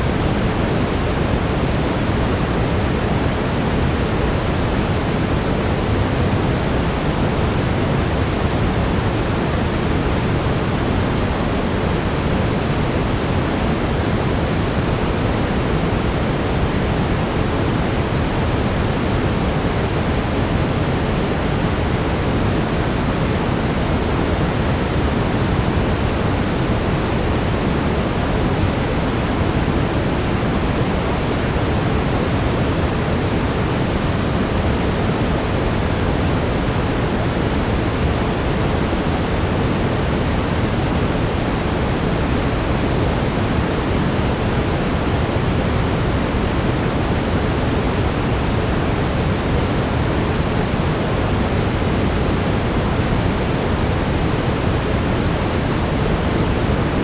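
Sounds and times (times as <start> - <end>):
brown noise: 0.0 - 57.0.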